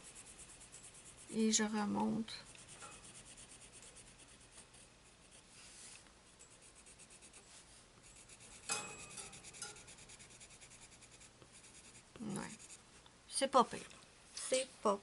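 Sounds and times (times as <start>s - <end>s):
pencil scratching on paper: 0.0s - 12.8s.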